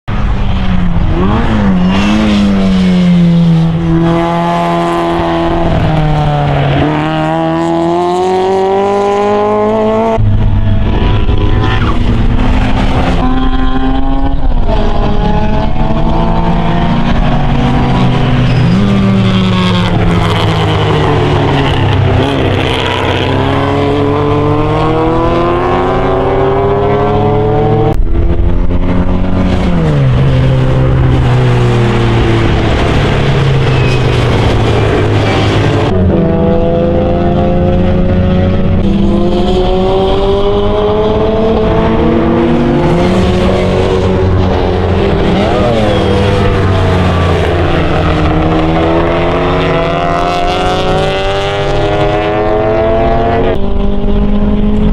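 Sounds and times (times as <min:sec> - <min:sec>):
race car engines revving: 0:00.1 - 0:54.9.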